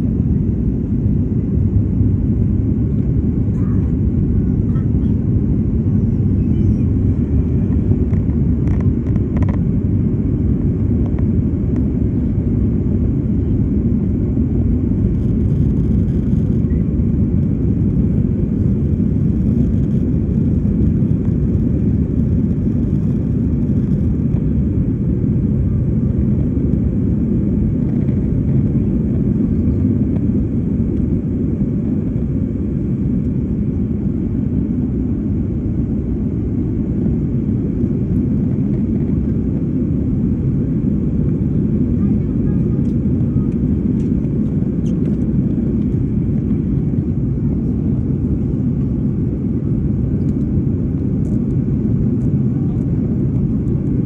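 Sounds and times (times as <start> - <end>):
aircraft low rumble: 0.0 - 54.0.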